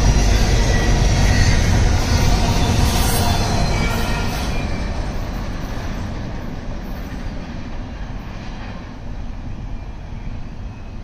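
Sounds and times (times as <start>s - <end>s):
train wheels on rail: 0.0s - 11.0s.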